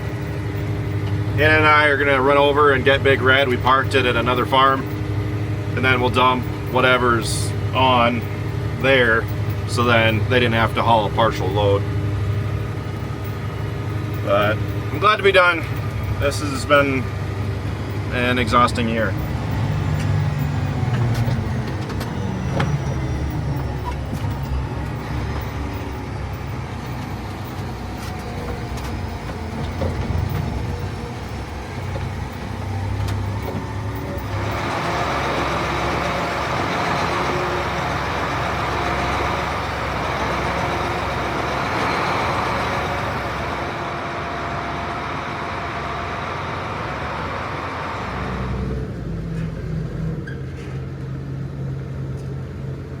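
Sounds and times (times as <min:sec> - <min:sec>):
truck diesel engine running: 0:00.0 - 0:53.0.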